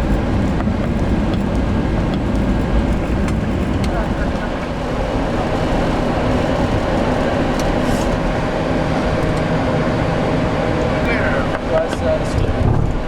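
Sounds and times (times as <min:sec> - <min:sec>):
low rumble of jet engines: 0:00.0 - 0:13.0
steady hum: 0:00.0 - 0:13.0
wheels on runway: 0:00.0 - 0:13.0.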